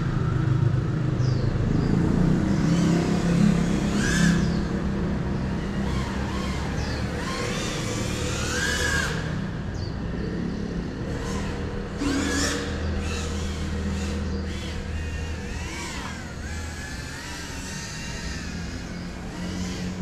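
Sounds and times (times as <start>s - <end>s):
drone motors and propellers whining: 0.0s - 20.0s
steady low hum: 0.0s - 20.0s.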